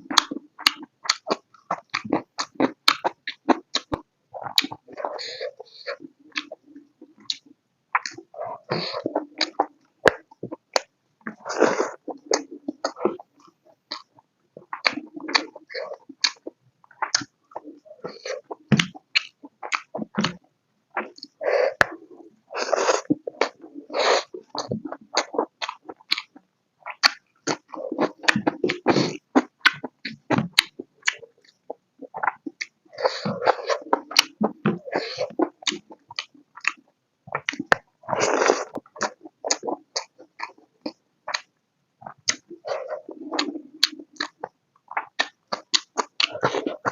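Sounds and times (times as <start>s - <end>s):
wet mouth chewing: 0.1s - 14.1s, 14.7s - 20.4s, 21.0s - 46.9s.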